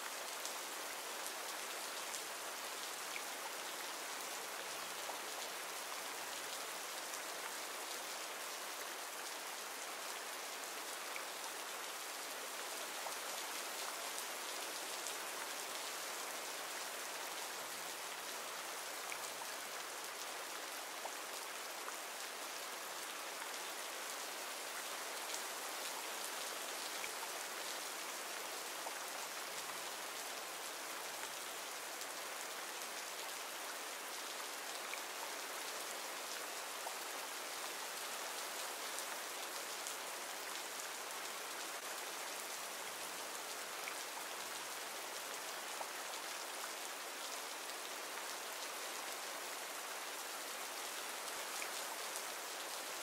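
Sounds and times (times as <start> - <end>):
rain patter: 0.0 - 53.0.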